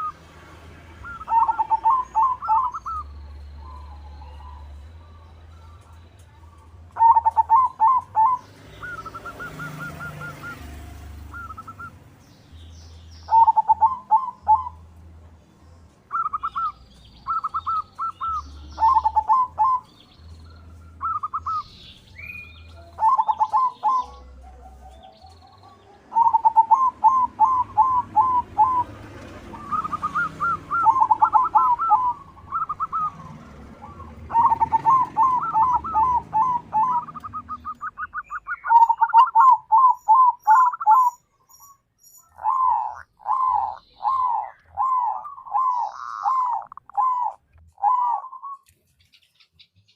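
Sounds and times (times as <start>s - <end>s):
dove cooing: 0.0s - 0.2s, 1.0s - 12.0s, 13.3s - 14.9s, 16.1s - 41.2s, 42.2s - 48.6s.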